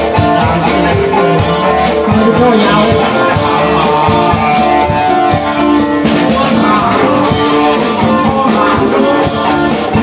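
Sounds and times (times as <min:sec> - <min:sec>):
band playing melody: 0:00.0 - 0:10.0.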